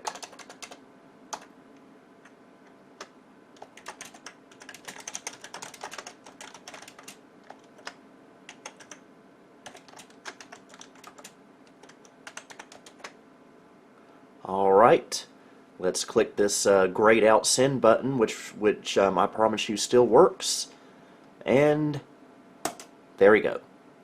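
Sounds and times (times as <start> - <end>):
faint steady low hum: 0.0 - 24.0.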